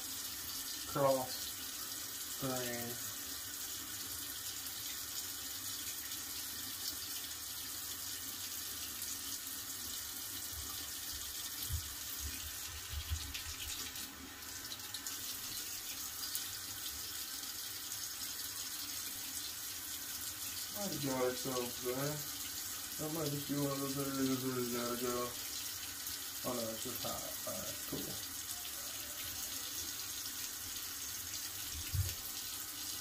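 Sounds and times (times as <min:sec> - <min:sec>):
tap water running into basin: 0:00.0 - 0:33.0.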